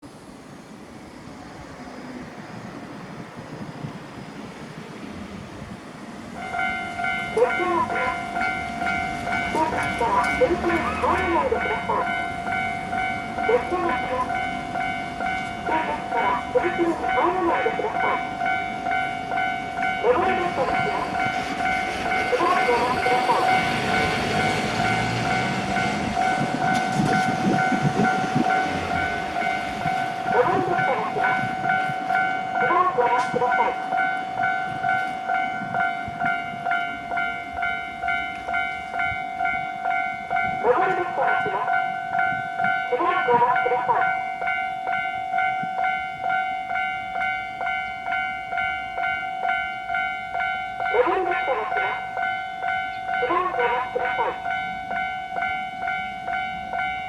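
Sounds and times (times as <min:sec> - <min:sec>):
passing train rumble: 0:00.0 - 0:57.0
level crossing warning bell: 0:06.2 - 0:57.0.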